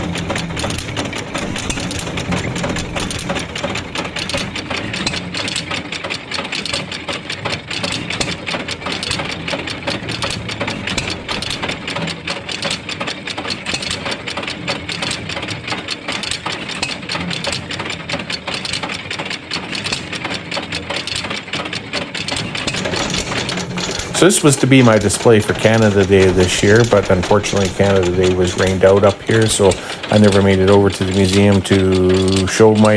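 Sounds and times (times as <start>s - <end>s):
machinery clattering clicks: 0.0s - 32.9s
stationary engine running: 0.0s - 32.9s.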